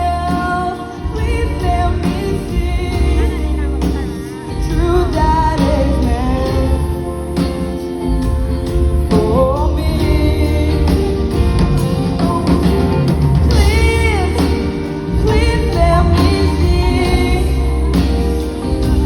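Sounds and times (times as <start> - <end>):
lead singer: 0.0 - 19.0
pop-rock band with guitar: 0.0 - 19.0.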